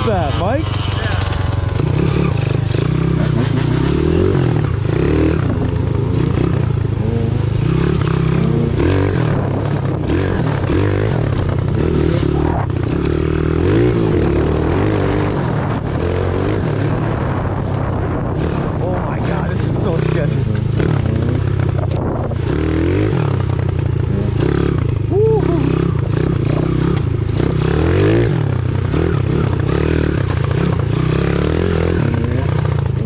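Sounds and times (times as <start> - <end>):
motorbike engine revving: 0.0 - 33.0.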